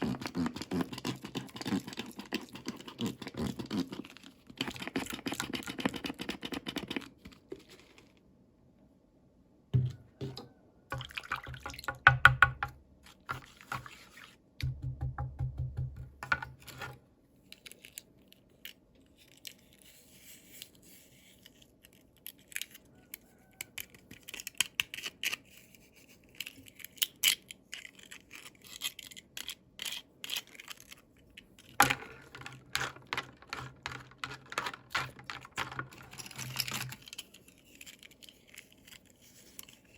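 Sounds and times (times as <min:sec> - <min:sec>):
plastic toys and packaging handled: 0:00.0 - 0:08.8, 0:09.8 - 0:14.6, 0:16.2 - 0:39.9.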